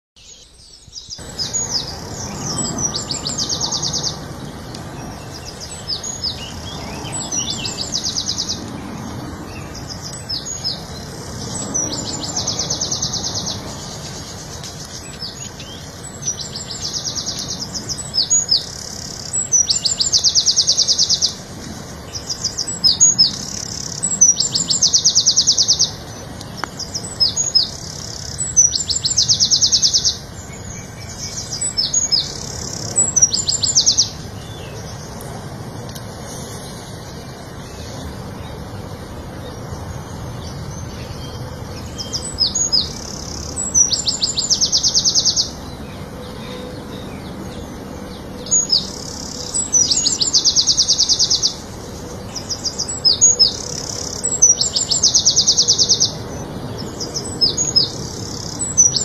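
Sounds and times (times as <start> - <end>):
songbird trilling: 0.2 - 35.2, 40.4 - 59.0.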